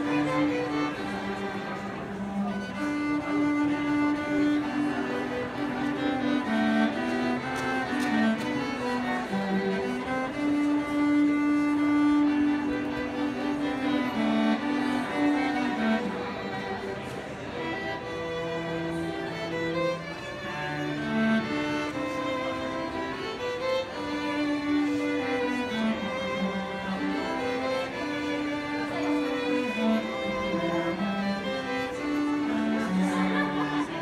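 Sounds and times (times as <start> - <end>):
bowed string instruments melody: 0.0 - 34.0.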